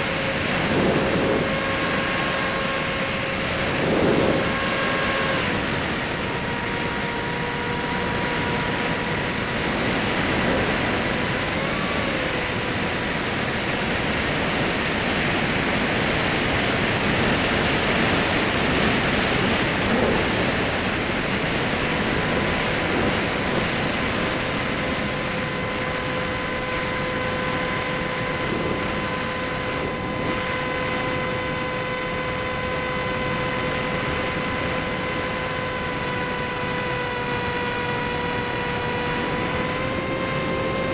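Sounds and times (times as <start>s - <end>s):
electric motor whine: 0.0s - 40.9s
wind rush: 0.0s - 40.9s.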